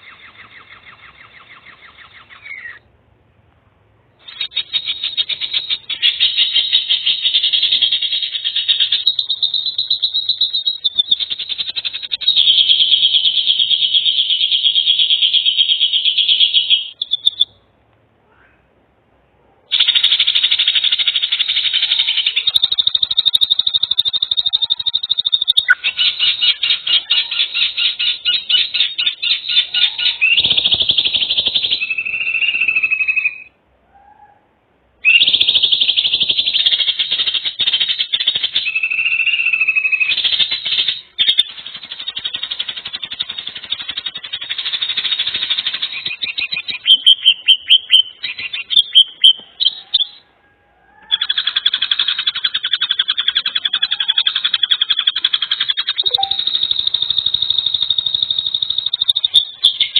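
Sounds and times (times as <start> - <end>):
sharp chirps: 4.2 - 17.6, 19.7 - 33.5, 35.0 - 50.2, 51.2 - 59.9.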